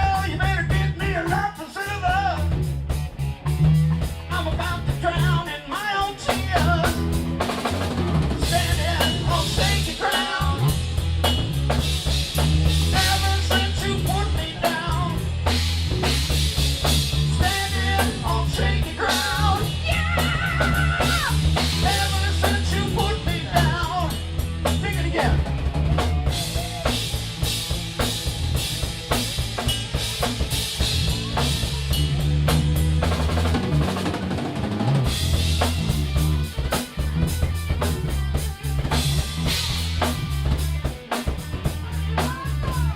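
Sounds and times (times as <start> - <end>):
bass guitar: 0.0 - 42.9
drum kit beat: 0.0 - 42.9
electric guitar: 0.0 - 42.9
rock band playing: 0.0 - 42.9.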